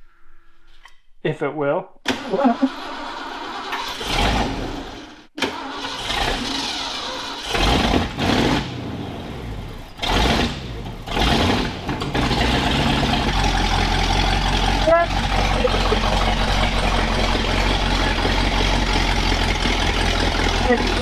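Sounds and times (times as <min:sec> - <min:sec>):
engine cranking and starting: 0:02.1 - 0:08.7, 0:09.9 - 0:21.0.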